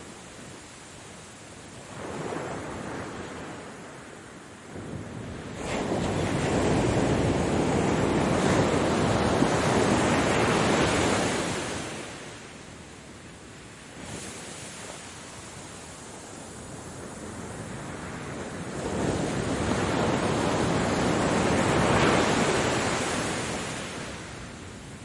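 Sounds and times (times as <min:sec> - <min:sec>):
ocean waves on a shore: 0:00.0 - 0:25.0.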